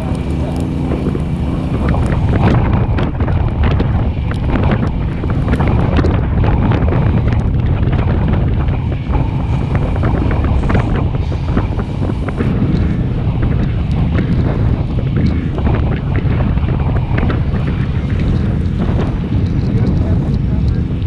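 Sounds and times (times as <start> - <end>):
low engine and road rumble: 0.0 - 21.0
wind buffeting microphone: 0.0 - 21.0.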